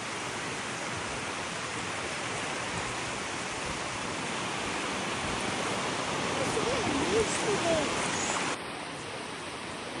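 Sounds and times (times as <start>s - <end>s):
surf washing onto sandy beach: 0.0s - 10.0s.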